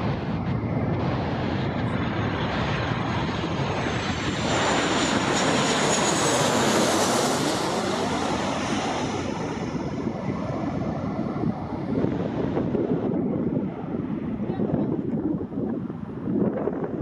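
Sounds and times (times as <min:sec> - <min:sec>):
jet airliner rumble overhead: 0:00.0 - 0:17.0
jet engine high whine: 0:00.0 - 0:17.0.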